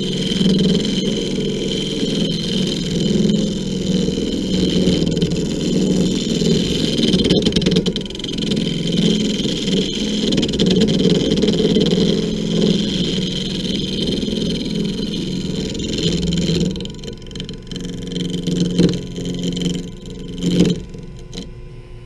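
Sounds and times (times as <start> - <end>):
lathe motor hum and whine: 0.0 - 22.0.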